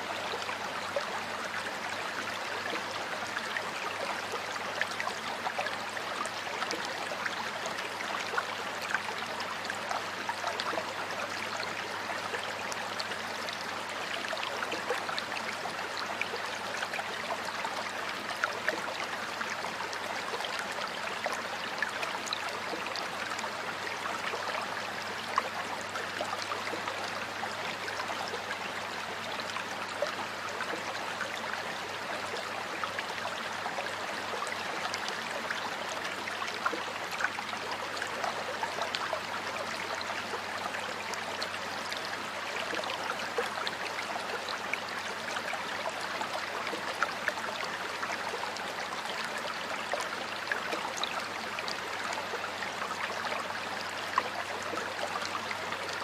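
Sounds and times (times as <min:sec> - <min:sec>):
stream water rushing and gurgling: 0:00.0 - 0:56.0.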